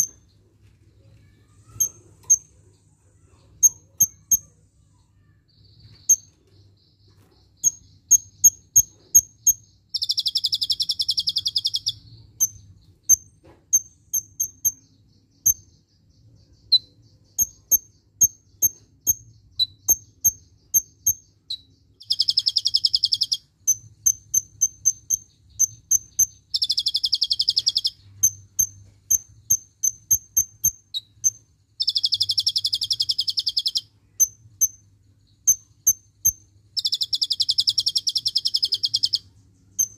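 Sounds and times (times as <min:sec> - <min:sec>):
bird singing high chirps: 0:00.0 - 0:00.4, 0:01.0 - 0:39.9
rapid bird trill: 0:00.0 - 0:00.4, 0:01.1 - 0:39.9.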